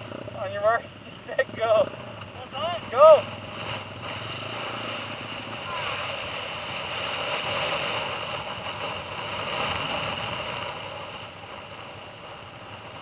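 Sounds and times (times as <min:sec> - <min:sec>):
pit bike engine running: 0:00.0 - 0:13.0.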